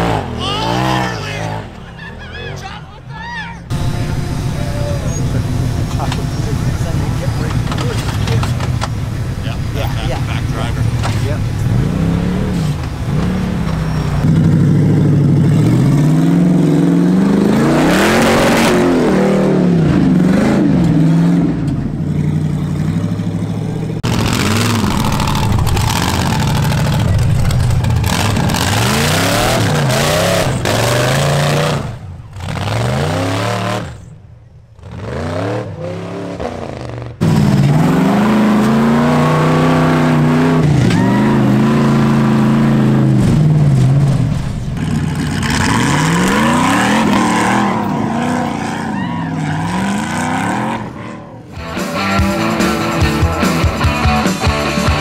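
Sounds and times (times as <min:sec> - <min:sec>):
off-road engine revving: 0:00.0 - 0:02.7, 0:03.6 - 0:55.0.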